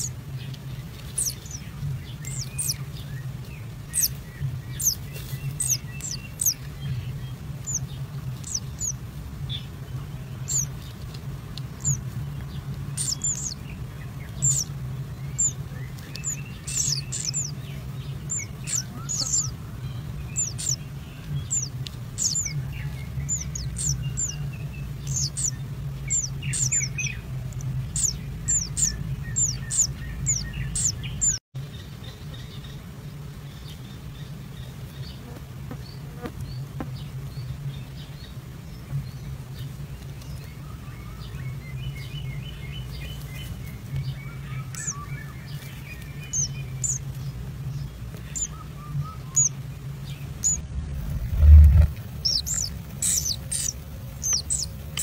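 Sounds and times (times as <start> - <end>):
nestlings high-pitched chirps: 0.0 - 31.4, 33.6 - 55.0
steady low hum: 0.0 - 55.0.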